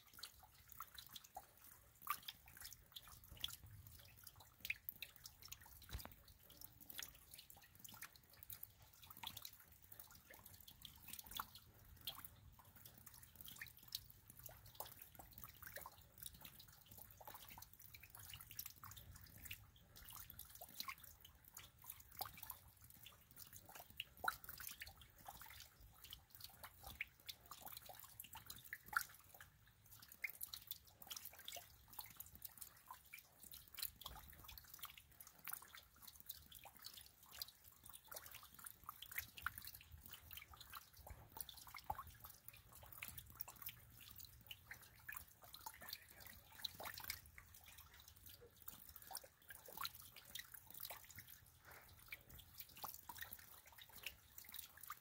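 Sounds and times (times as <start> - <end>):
light rain ticking: 0.0 - 55.0.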